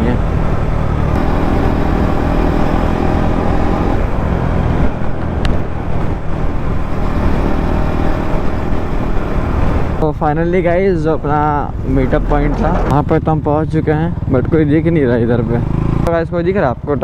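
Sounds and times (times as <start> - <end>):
motorcycle engine running: 0.0 - 10.0, 11.8 - 17.0
road and wind noise: 0.0 - 17.0.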